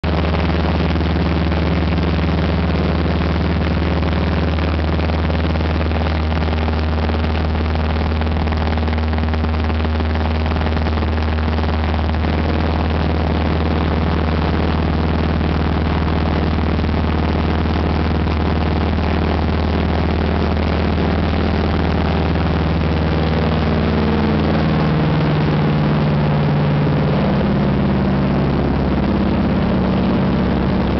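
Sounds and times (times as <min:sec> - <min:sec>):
plane engine and propeller: 0:00.0 - 0:30.9.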